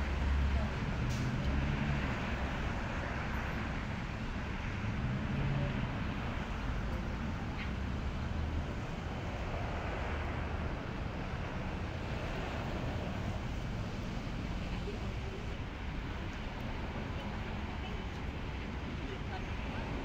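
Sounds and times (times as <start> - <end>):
cars and bus passing: 0.0 - 20.0.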